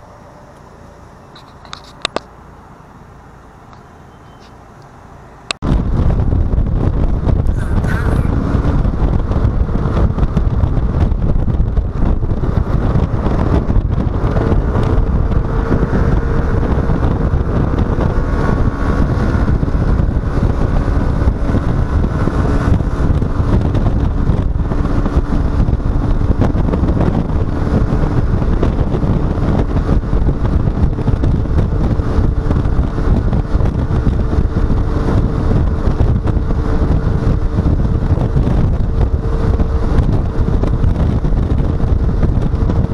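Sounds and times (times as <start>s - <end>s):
scooter engine droning: 0.0s - 42.9s
wind buffeting microphone: 5.5s - 42.9s.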